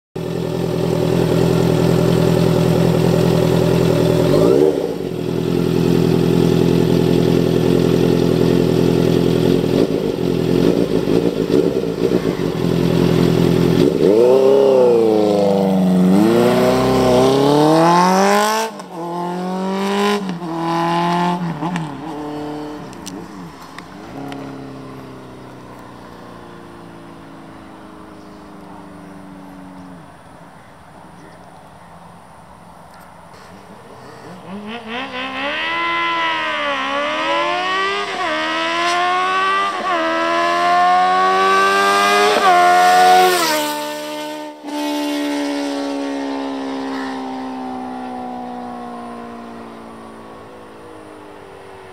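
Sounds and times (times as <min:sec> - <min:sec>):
motorcycle engine revving: 0:00.2 - 0:30.2, 0:33.3 - 0:51.9.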